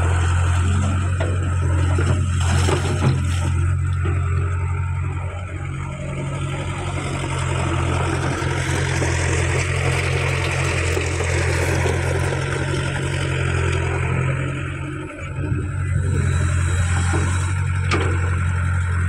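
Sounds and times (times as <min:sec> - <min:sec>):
excavator diesel engine drone: 0:00.0 - 0:19.0.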